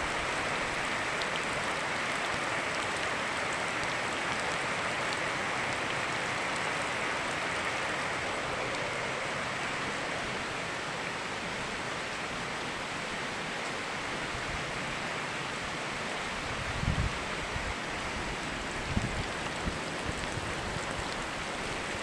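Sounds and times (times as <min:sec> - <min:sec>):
river flowing: 0:00.0 - 0:22.0
steady rain: 0:00.0 - 0:22.0.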